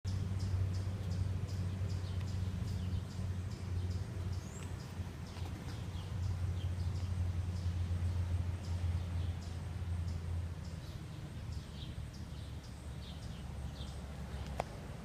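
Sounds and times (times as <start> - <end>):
steady low rumble: 0.1 - 15.0.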